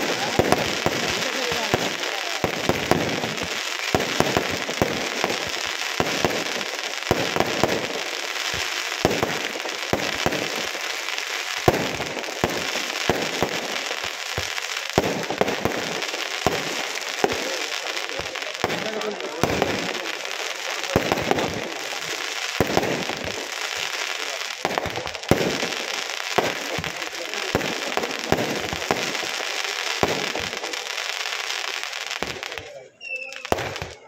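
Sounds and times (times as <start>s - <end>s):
fireworks bangs: 0.0s - 34.0s
fireworks crackling: 0.0s - 34.0s.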